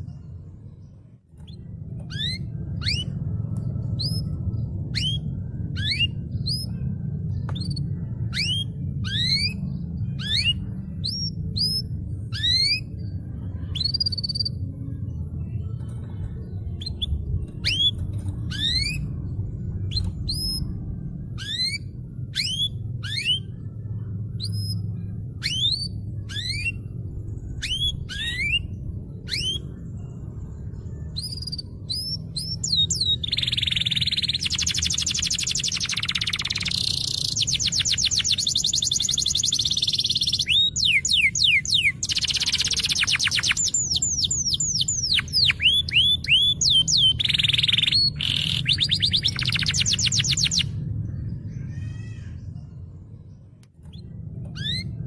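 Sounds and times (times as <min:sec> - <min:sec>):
canary singing: 0:00.0 - 0:14.7, 0:16.6 - 0:51.4, 0:53.8 - 0:55.0
low hum: 0:00.0 - 0:55.0.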